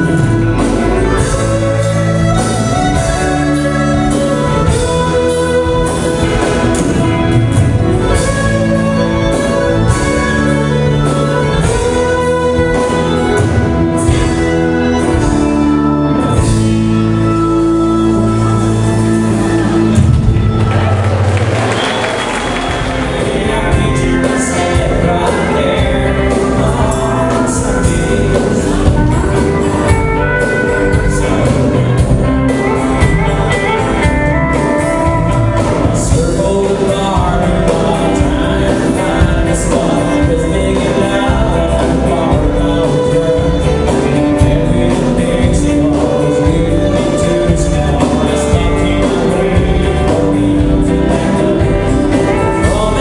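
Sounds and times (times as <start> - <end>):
person singing: 0.0 - 21.1, 21.7 - 53.0
drum kit beat: 0.0 - 53.0
electric guitars: 0.0 - 53.0.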